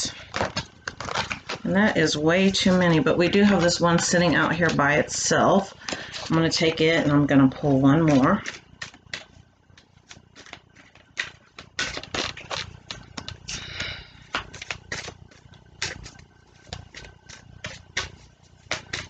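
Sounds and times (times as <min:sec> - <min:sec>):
cards being shuffled: 0:00.1 - 0:06.7, 0:07.5 - 0:19.0.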